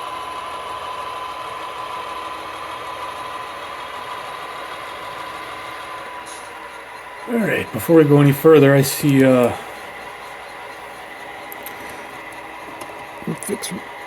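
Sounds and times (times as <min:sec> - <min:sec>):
constant high whine: 0:00.0 - 0:14.0
model train engine drone: 0:00.0 - 0:14.0.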